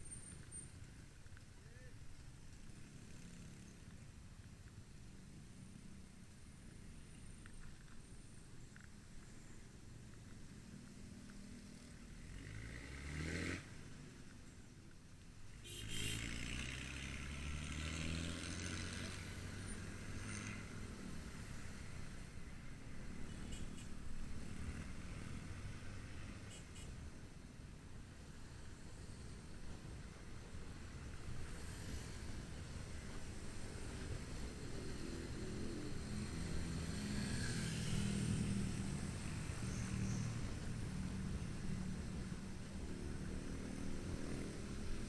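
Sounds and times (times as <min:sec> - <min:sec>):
road and wind noise: 0:00.0 - 0:45.0.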